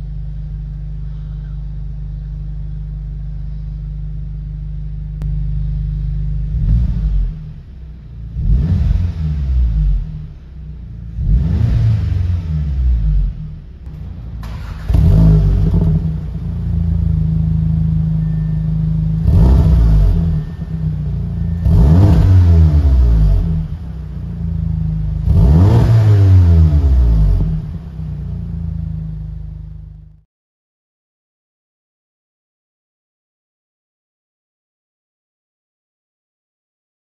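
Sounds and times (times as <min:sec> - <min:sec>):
car engine idling and revving: 0:00.0 - 0:30.2.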